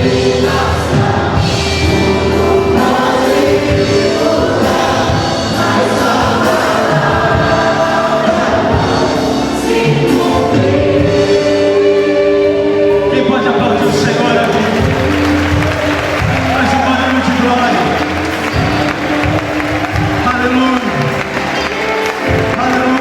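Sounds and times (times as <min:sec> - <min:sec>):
choir singing over a band: 0:00.0 - 0:23.0.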